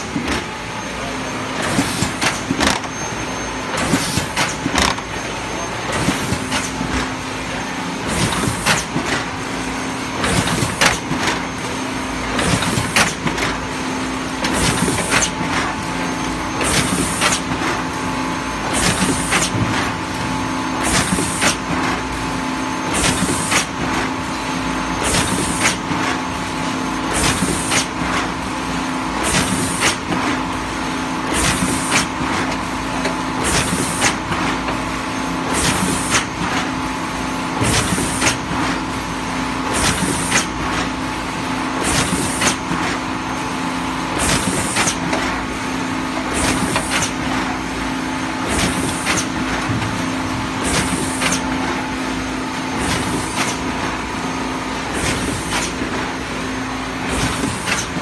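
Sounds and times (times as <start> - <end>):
machine hiss and clatter: 0.0 - 58.0.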